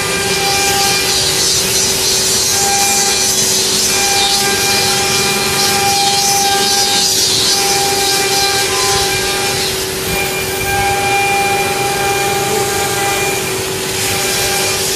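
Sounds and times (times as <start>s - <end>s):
grating cutting noise: 0.0s - 14.9s
router spindle whine: 0.0s - 14.9s.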